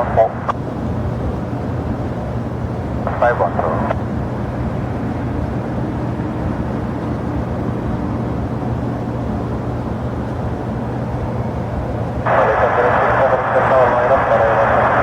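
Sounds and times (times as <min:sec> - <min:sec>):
jet engines rumbling: 0:00.0 - 0:15.0
low constant hum: 0:00.0 - 0:15.0.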